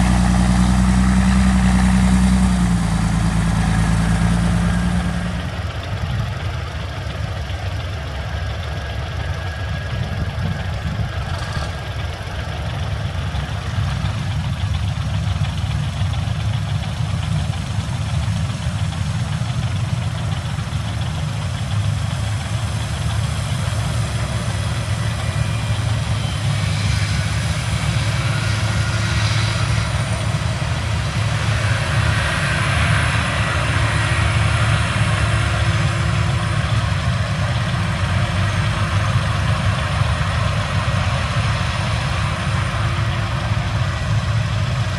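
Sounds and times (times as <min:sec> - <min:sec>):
farm machinery engine running: 0:00.0 - 0:44.9.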